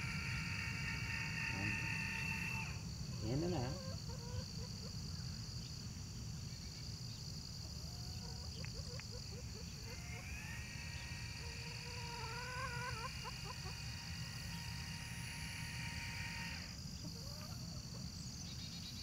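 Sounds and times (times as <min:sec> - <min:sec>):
hens clucking: 0:00.0 - 0:05.1, 0:07.6 - 0:18.1
high-pitched insect hum: 0:00.0 - 0:19.0.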